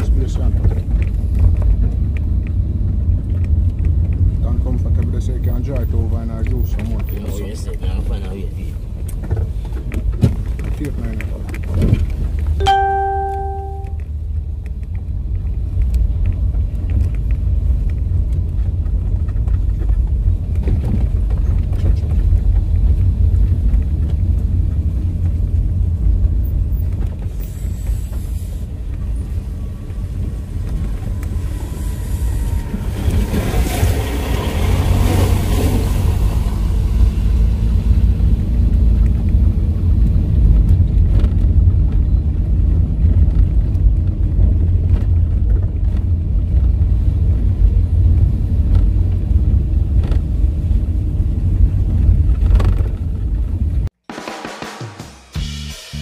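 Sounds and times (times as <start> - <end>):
car road rumble inside cabin: 0.0 - 53.9.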